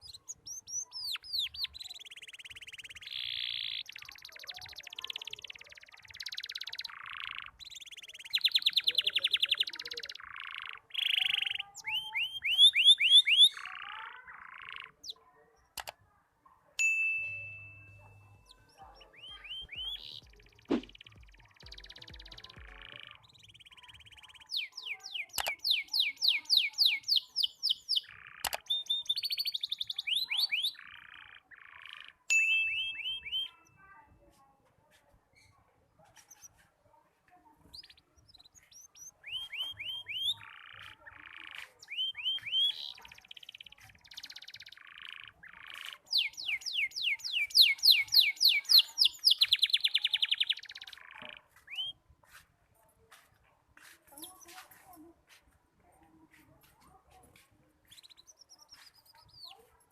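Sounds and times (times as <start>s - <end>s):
canary chirping trills: 0.0s - 59.9s.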